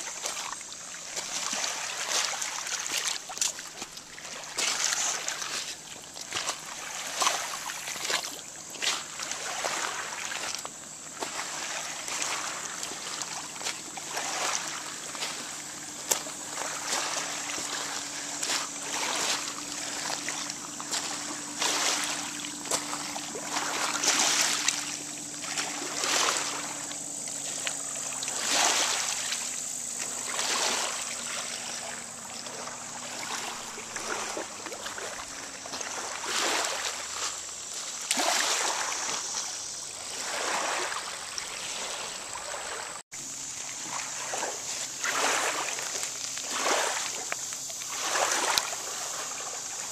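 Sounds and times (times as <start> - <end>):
waves lapping against stones: 0.0 - 49.9.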